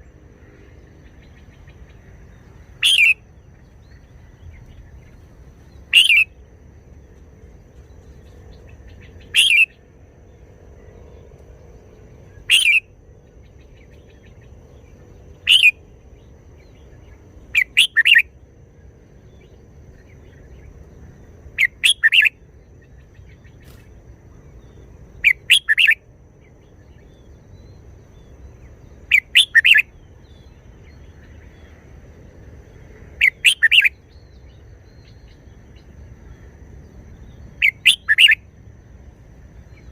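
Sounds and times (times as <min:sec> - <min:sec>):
bird singing song phrases: 0:00.0 - 0:39.9.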